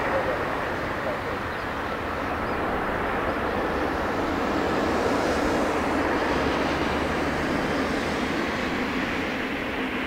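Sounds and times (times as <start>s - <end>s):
jet engines rushing: 0.0s - 10.0s.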